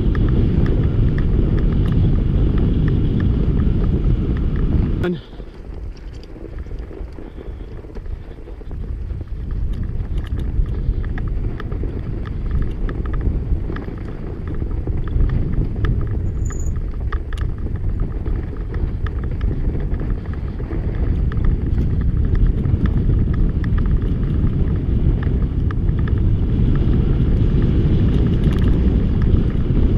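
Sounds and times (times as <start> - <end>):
bike clicks and rattles: 0.0 - 29.9
tyres rolling on snow: 0.0 - 29.9
wind buffeting microphone: 0.0 - 29.9.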